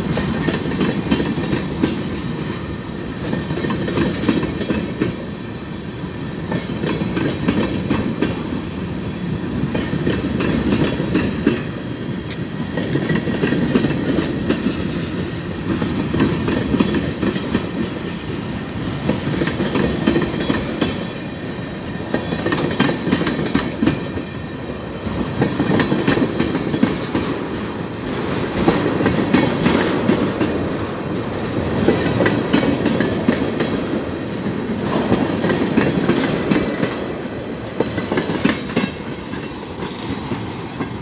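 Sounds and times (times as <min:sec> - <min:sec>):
train wheels clattering over rail joints: 0:00.0 - 0:41.0.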